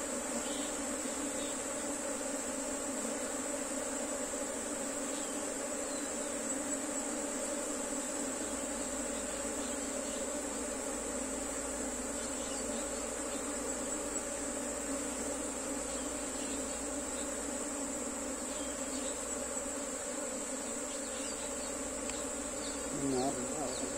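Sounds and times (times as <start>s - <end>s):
honeybees buzzing: 0.0s - 23.9s.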